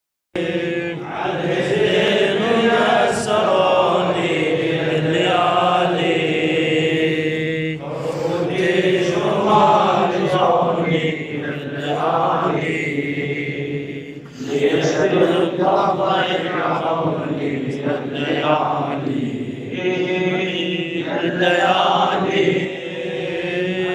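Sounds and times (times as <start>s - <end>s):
man chanting: 0.5s - 13.3s, 14.1s - 23.9s.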